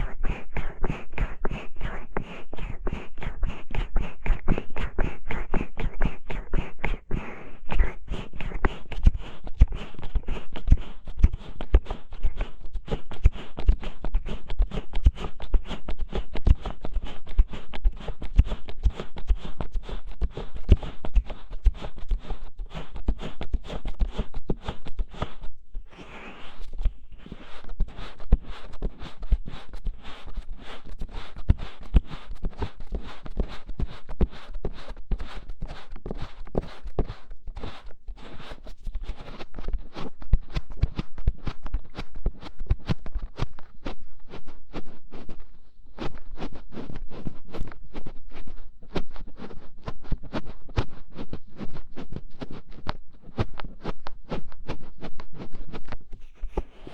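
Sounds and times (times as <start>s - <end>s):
fingertips scratching microphone: 0.0s - 56.9s.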